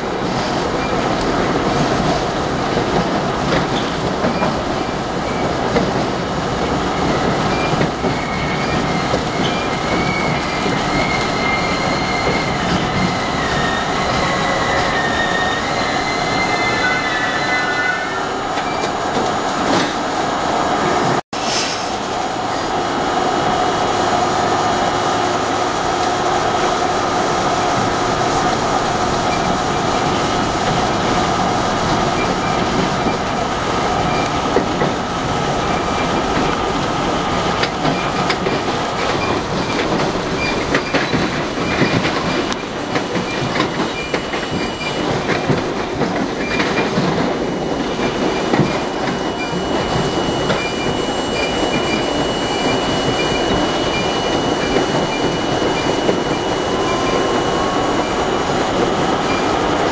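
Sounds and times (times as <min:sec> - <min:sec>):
subway wheels rumbling on rails: 0:00.0 - 0:59.9.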